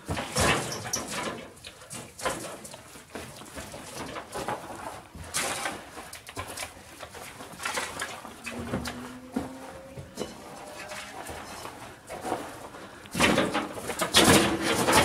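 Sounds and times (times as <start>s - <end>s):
footsteps crunching over debris: 2.0s - 15.0s.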